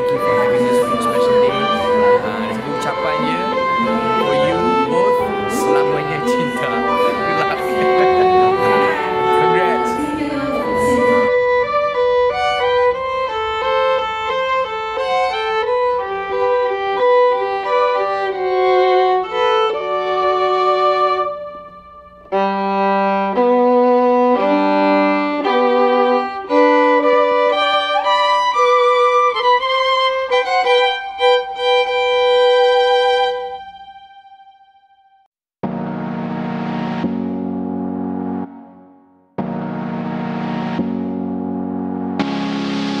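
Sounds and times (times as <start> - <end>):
violin playing slow melody: 0.0 - 35.0.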